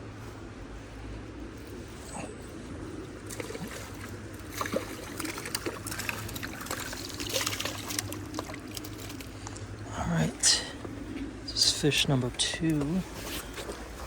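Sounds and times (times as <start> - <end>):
creek water trickling: 1.7 - 14.0.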